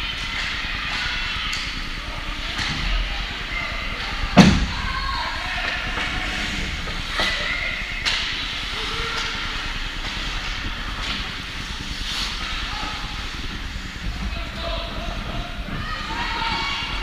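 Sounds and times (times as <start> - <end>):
crowd voices: 0.0 - 17.0.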